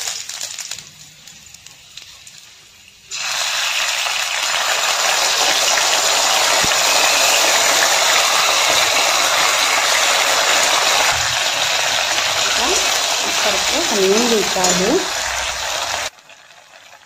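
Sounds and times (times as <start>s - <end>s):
sauce sizzling in hot oil: 2.0s - 17.0s.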